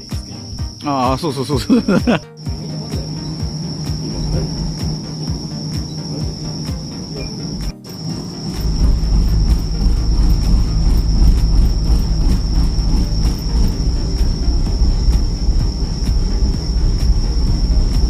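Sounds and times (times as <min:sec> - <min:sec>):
boat engine low rumble: 0:00.0 - 0:18.0
high-pitched whine: 0:00.0 - 0:18.0.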